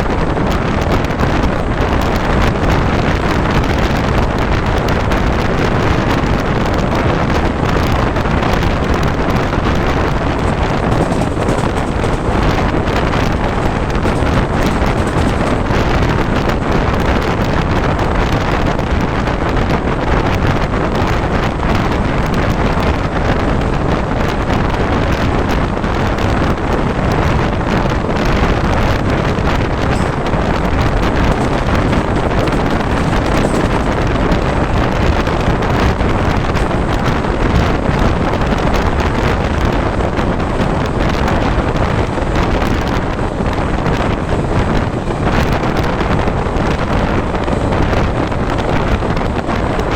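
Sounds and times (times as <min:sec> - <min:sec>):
train running rumble: 0:00.0 - 0:49.9
wind rushing over microphone: 0:00.0 - 0:49.9.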